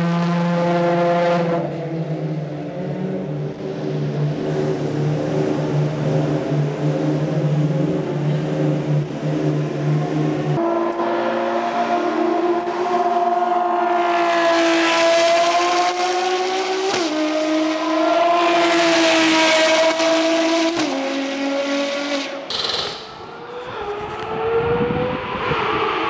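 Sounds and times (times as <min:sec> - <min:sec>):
car engine at full throttle: 0:00.0 - 0:26.0.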